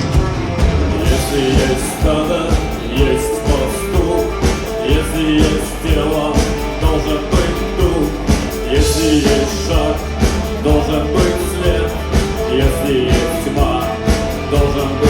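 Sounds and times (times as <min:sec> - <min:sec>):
bass: 0:00.0 - 0:15.0
drum beat: 0:00.0 - 0:15.0.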